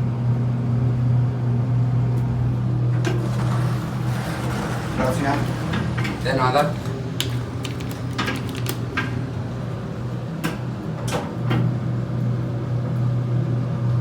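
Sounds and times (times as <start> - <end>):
elevator machinery humming: 0.2 - 14.0.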